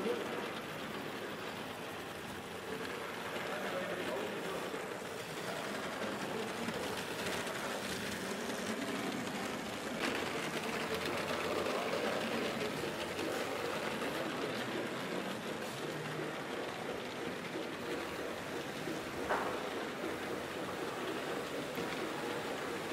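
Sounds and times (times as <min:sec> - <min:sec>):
toy train motor whirring: 0:00.0 - 0:22.9
wheels rattling over rails: 0:00.0 - 0:22.9.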